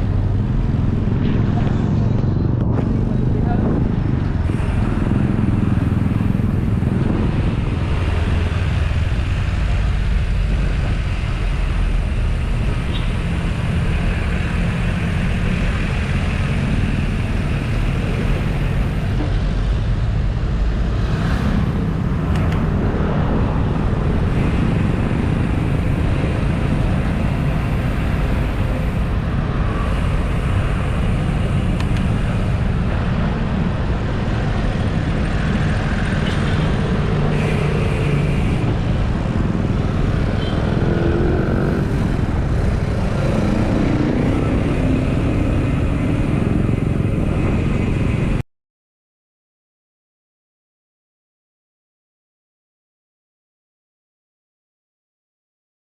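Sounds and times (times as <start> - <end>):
road traffic rumble: 0.0 - 48.4.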